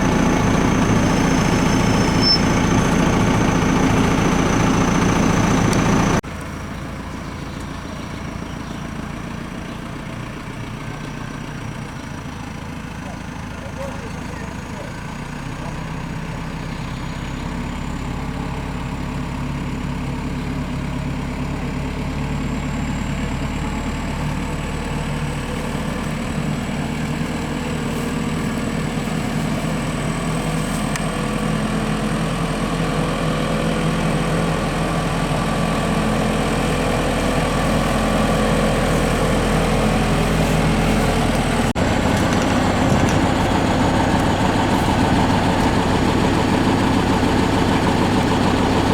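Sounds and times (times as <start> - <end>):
heavy engine running: 0.0 - 48.9.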